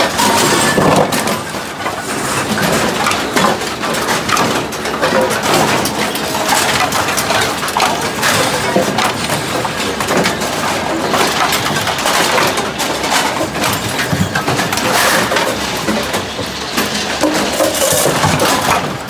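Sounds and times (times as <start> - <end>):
machinery clattering: 0.0 - 19.0.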